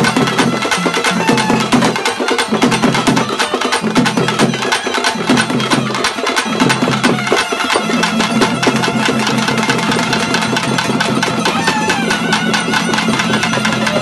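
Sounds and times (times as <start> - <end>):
large drums beaten with sticks: 0.0 - 14.0
small hand drums: 0.0 - 14.0.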